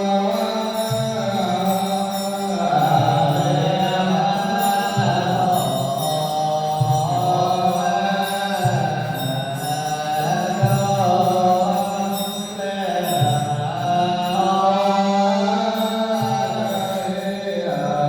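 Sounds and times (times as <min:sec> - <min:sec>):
chanting melody: 0:00.0 - 0:18.0.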